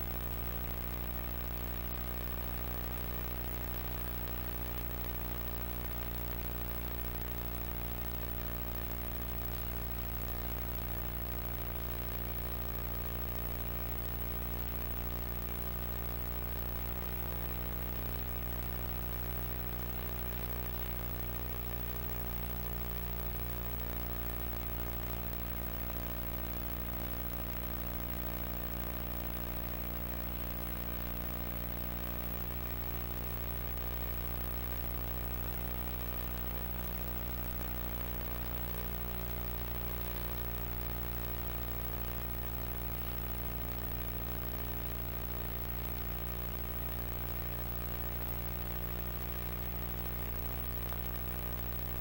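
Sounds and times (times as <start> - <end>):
electrical hum: 0.0 - 52.0.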